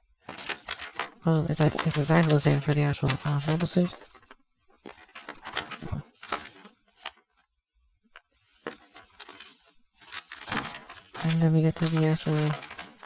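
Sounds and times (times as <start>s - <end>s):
paper pages rustling: 0.1s - 13.0s.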